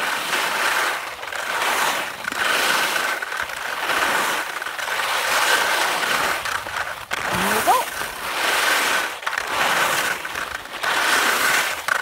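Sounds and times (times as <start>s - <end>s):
skis scraping over snow: 0.0s - 12.0s.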